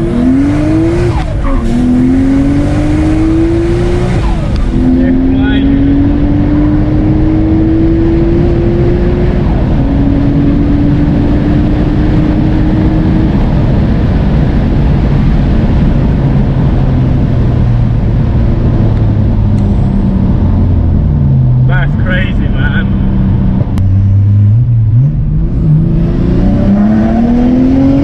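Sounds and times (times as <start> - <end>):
turbocharged car engine accelerating: 0.0 - 28.0
wind and road noise: 0.0 - 28.0.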